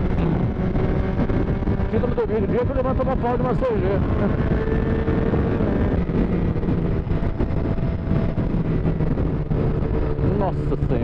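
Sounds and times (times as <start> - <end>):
large truck running alongside: 0.0 - 11.0
motorcycle engine at speed: 0.0 - 11.0
wind buffeting microphone: 0.0 - 11.0.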